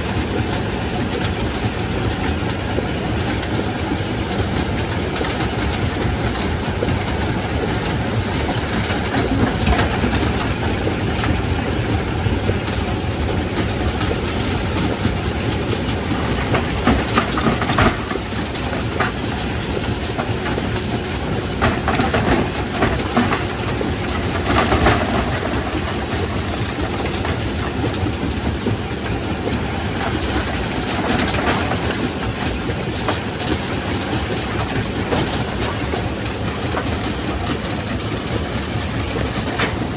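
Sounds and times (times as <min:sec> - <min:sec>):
rock crusher running: 0:00.0 - 0:39.9.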